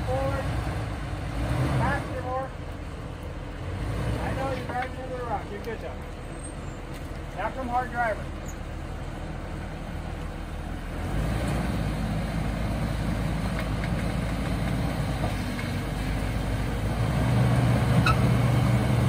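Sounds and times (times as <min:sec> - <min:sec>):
car engine running under load: 0:00.0 - 0:19.0.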